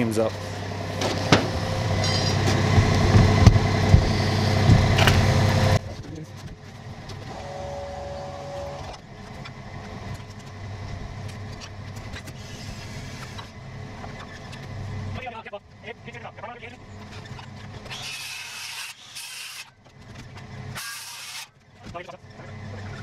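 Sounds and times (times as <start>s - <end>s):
engine humming: 0.0s - 18.0s, 21.6s - 23.0s.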